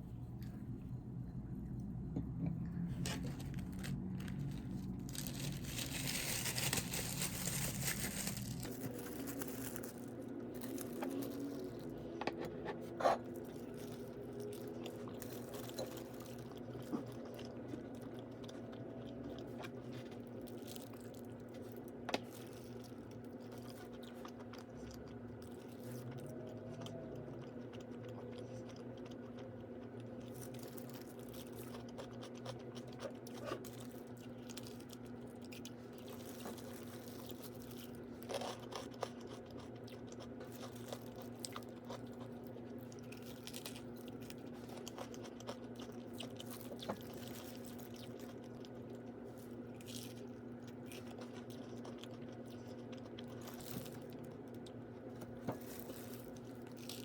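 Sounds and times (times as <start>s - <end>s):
steady low hum: 0.0s - 57.0s
person crunching and chewing: 3.0s - 12.1s, 12.9s - 57.0s.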